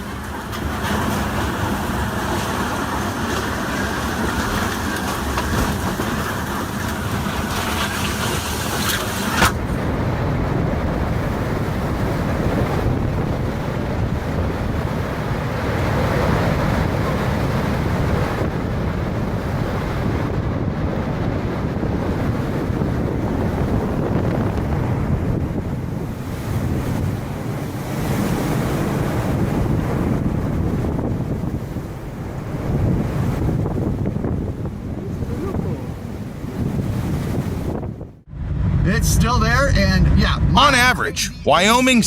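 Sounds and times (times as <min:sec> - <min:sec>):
storm wind on microphone: 0:00.0 - 0:42.0.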